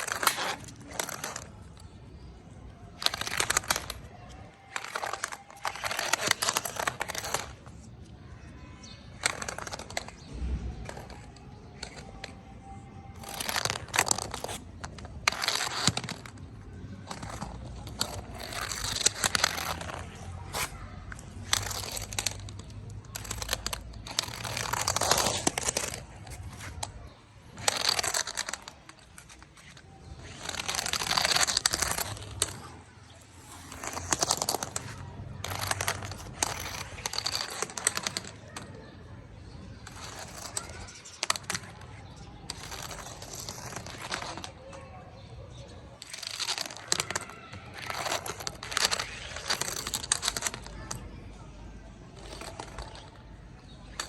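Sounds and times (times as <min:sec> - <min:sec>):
toy ball scraping and rustling: 0:00.0 - 0:08.2, 0:08.8 - 0:54.0.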